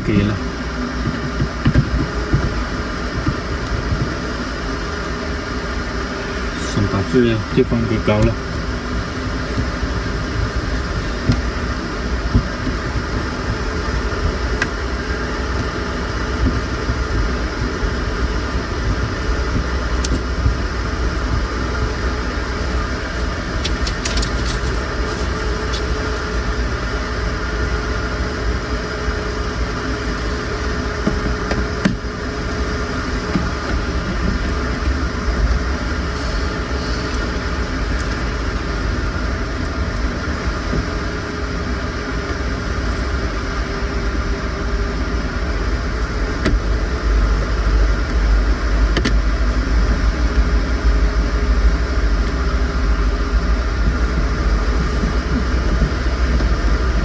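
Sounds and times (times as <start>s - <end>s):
mechanical hum with steady tones: 0.0s - 57.0s.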